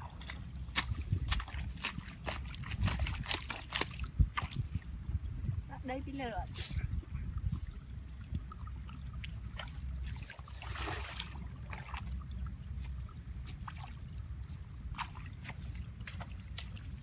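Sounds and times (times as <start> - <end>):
steady low rumble: 0.0 - 17.0
water sloshing and splashing: 0.0 - 17.0.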